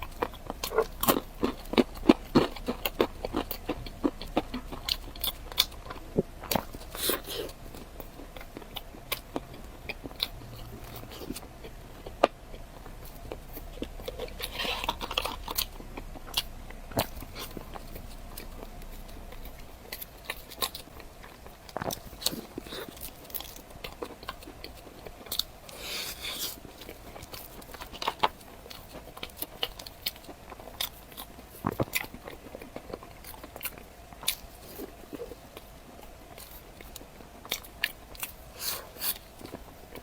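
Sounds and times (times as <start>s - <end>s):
person chewing crunchy food: 0.0s - 40.0s.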